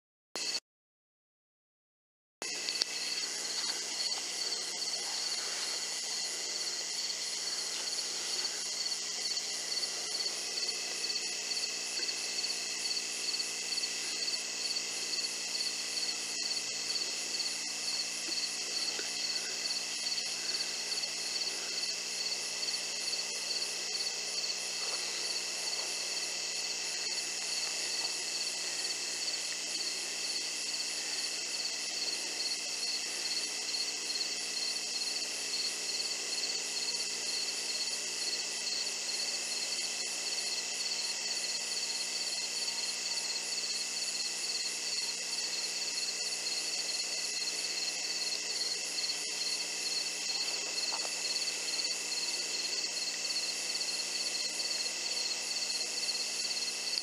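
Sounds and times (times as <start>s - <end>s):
crickets and insects trilling: 2.5s - 57.0s.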